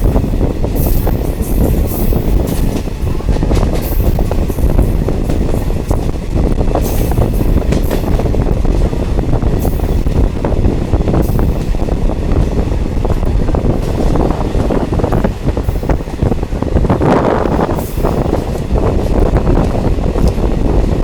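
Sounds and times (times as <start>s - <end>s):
rattles and clatters: 0.0s - 21.0s
train rumbling along track: 0.0s - 21.0s.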